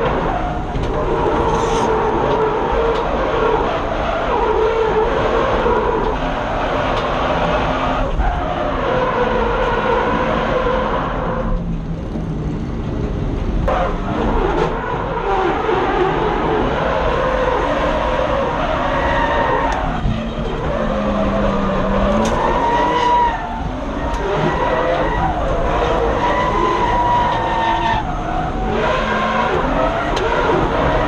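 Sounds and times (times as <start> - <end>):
car engine at high revs: 0.0 - 12.4, 13.0 - 31.0.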